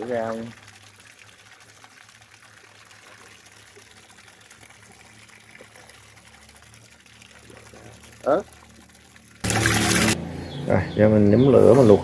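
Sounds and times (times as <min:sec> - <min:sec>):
greens rinsed by hand: 0:00.0 - 0:10.2
tap water running into metal basin: 0:00.0 - 0:10.2.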